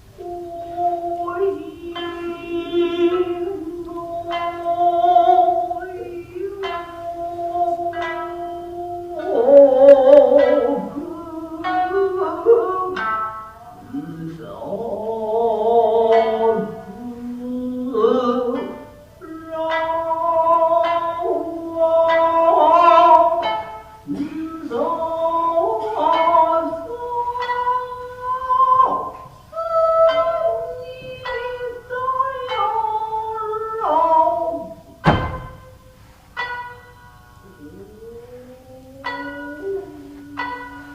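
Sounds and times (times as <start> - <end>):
person singing long wavering notes: 0.0 - 40.9
shamisen plucking: 0.0 - 40.9.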